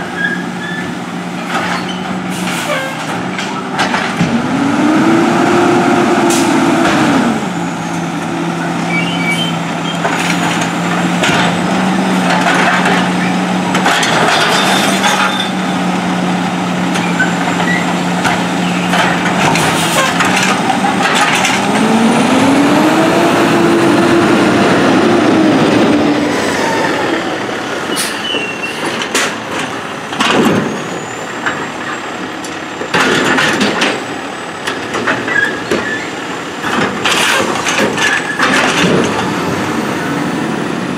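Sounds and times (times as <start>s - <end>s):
garbage truck diesel engine revving: 2.1s - 35.3s, 36.1s - 40.9s.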